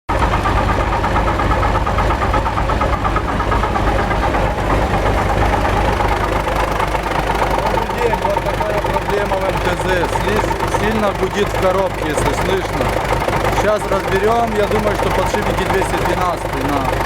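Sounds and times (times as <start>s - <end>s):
gearbox hum: 0.1s - 17.0s
tractor diesel engine running: 0.1s - 17.0s.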